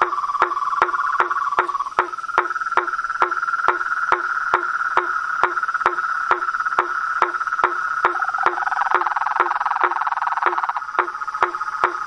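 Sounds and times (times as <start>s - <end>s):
toad trilling: 0.0s - 12.0s.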